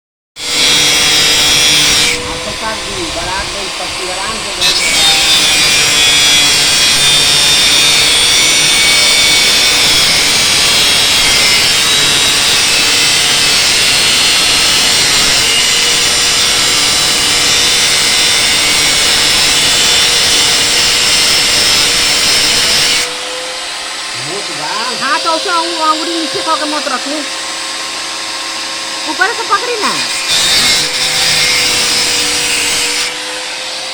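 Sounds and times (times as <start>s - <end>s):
angle grinder whining under load: 0.4s - 33.9s.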